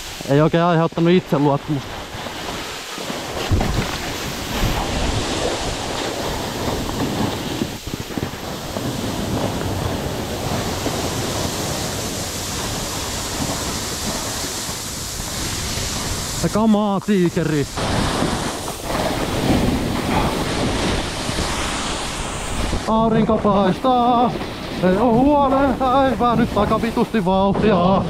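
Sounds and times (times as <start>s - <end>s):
snowboard edge scraping snow: 0.0s - 28.0s
wind noise on microphone: 0.0s - 28.0s.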